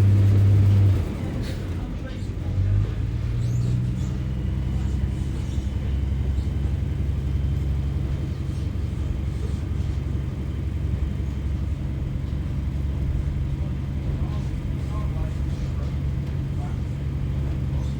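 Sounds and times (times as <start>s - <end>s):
diesel railcar engine droning: 0.0s - 17.9s.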